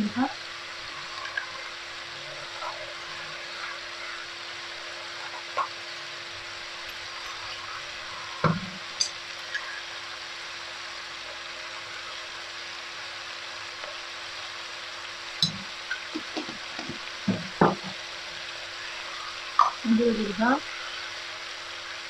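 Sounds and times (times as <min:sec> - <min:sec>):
vegetables sizzling in pot: 0:00.0 - 0:22.0.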